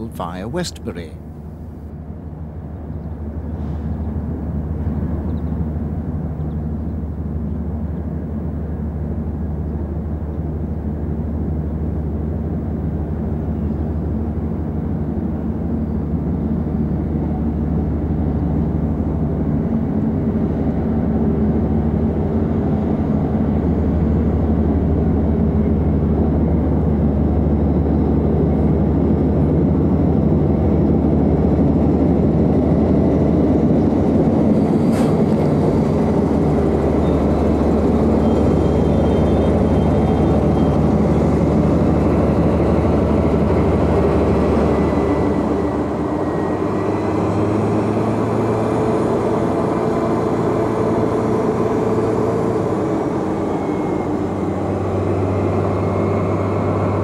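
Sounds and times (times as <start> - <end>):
diesel train engine: 0.0 - 57.0.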